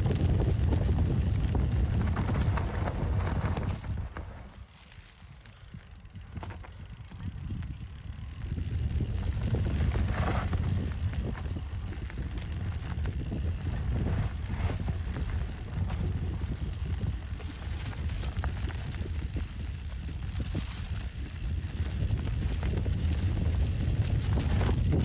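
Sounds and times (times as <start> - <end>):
wind on microphone: 0.0 - 4.6, 5.7 - 25.0
bike clicking and rattling: 0.0 - 25.0
bike tyres rumbling on trail: 0.0 - 25.0.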